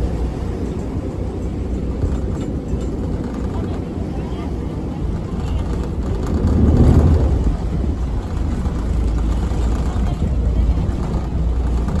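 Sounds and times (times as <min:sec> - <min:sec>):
ferry engine drone: 0:00.0 - 0:12.0
water noise: 0:00.0 - 0:12.0
wind: 0:00.0 - 0:12.0.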